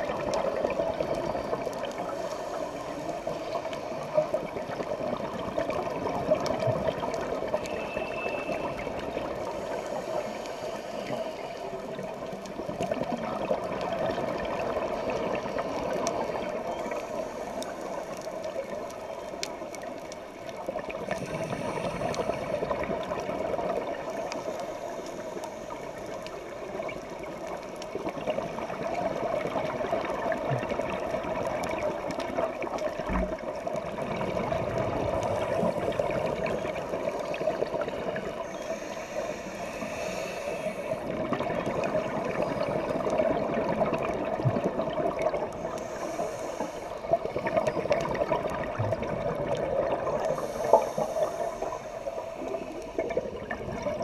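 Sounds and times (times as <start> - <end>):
faint clicks: 0.1 - 54.0.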